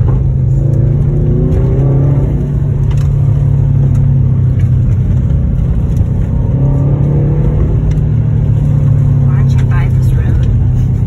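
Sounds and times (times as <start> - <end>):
car engine running at low revs: 0.0 - 11.0
tyres rumbling on dirt road: 0.0 - 11.0.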